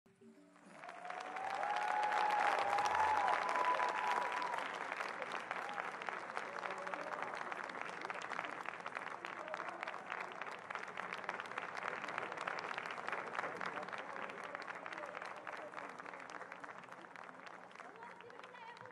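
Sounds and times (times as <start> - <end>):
audience applauding: 0.4 - 18.9.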